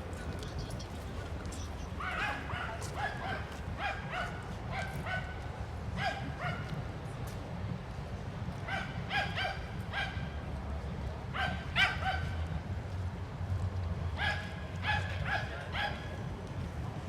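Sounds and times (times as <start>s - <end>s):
low city rumble: 0.0s - 17.0s.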